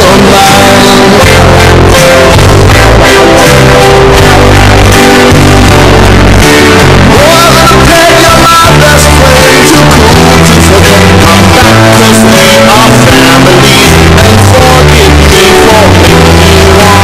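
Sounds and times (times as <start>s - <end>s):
loud rock music with guitar: 0.0s - 17.0s.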